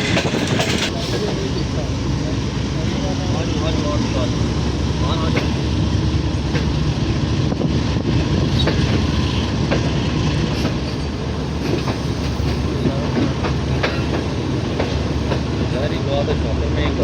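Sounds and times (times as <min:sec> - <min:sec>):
wheels clicking over rail joints: 0:00.0 - 0:02.9, 0:03.5 - 0:16.0
train coaches rumbling: 0:00.0 - 0:17.0.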